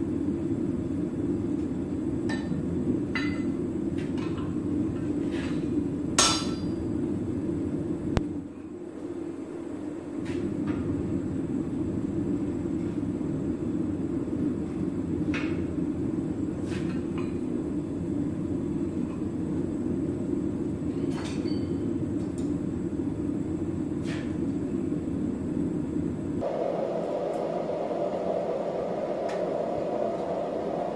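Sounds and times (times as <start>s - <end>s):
low roar of forge equipment: 0.0s - 30.9s.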